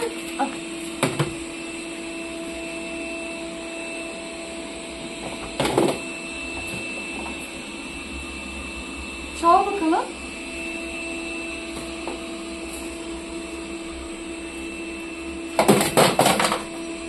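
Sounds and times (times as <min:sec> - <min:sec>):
appliance humming with held tones: 0:00.0 - 0:17.0.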